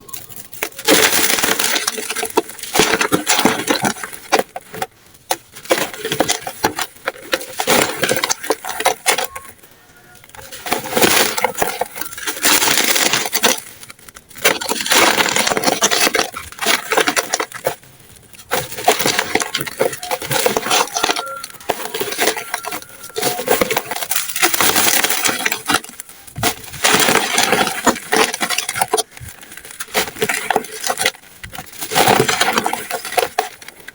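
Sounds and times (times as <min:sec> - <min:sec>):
chalky blocks crunching by hand: 0:00.0 - 0:33.9.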